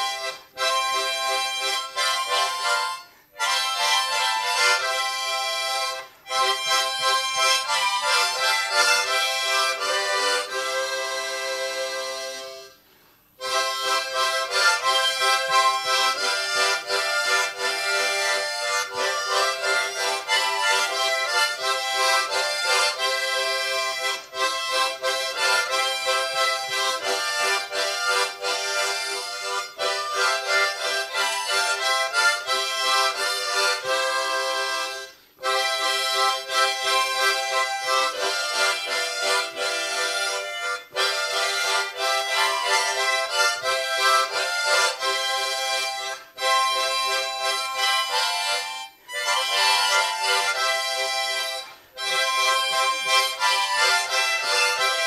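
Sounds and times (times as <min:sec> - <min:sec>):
harmonica ensemble playing chords: 0:00.0 - 0:55.0.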